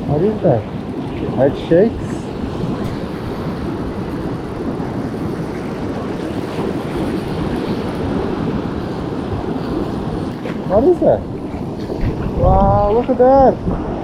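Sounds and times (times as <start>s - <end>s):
beach surf: 0.0s - 14.0s
wind buffeting microphone: 0.0s - 14.0s.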